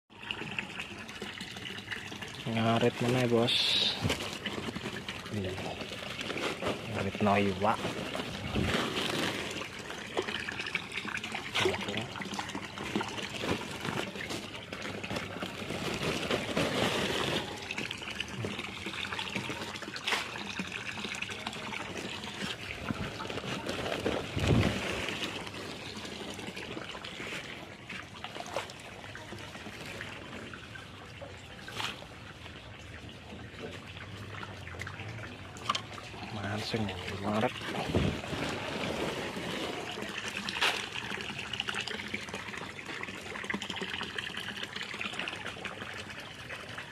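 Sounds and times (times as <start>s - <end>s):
water trickling and splashing: 0.1s - 46.9s.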